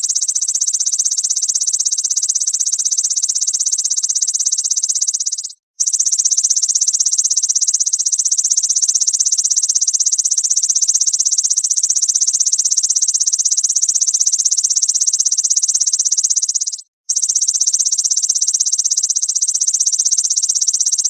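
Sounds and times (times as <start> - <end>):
grasshopper buzzing trill: 0.0 - 21.0.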